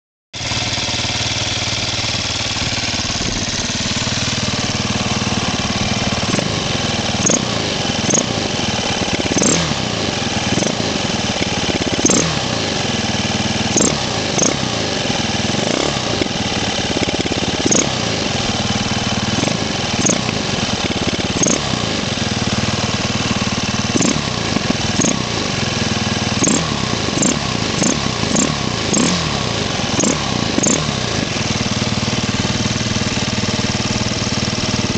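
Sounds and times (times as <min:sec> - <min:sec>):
motorcycle engine revving: 0:00.4 - 0:34.9.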